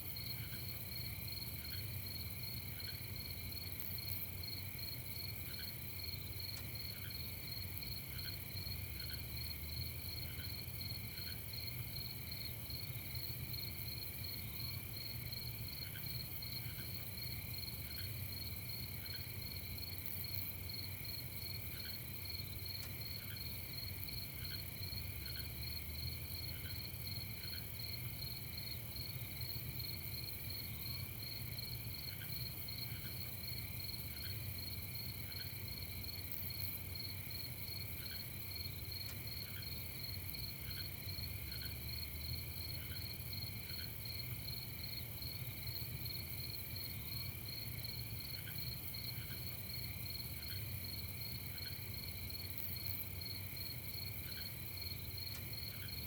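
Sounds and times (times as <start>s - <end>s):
crickets trilling: 0.2s - 56.0s.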